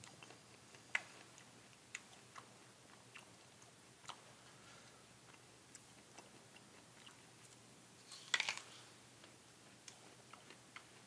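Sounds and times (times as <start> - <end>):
chewing apple crunches: 0.0 - 4.5, 5.2 - 11.0.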